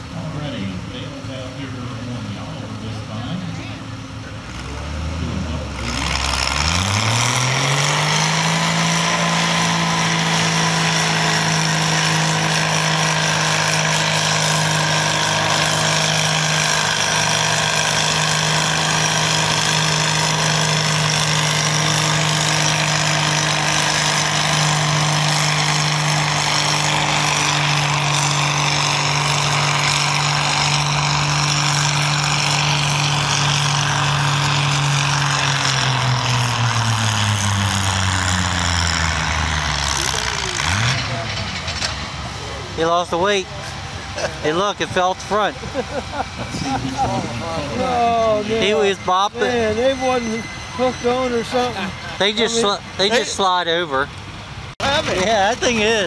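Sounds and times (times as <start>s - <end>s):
tractor engine revving at full throttle: 0.0s - 56.0s.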